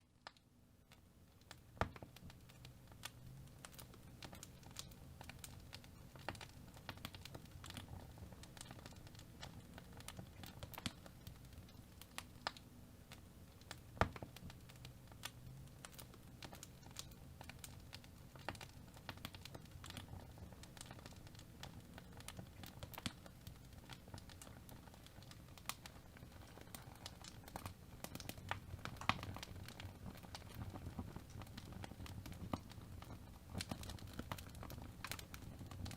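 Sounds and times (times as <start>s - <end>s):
wood fire crackling: 0.2s - 35.9s.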